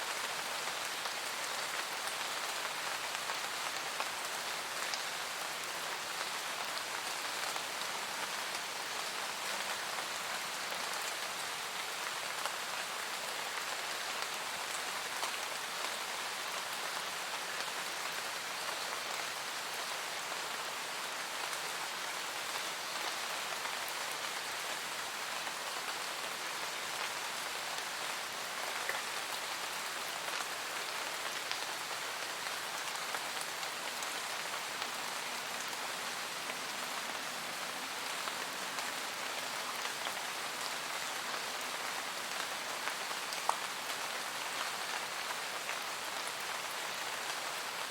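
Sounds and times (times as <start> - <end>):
rain pattering on leaves: 0.0 - 47.9.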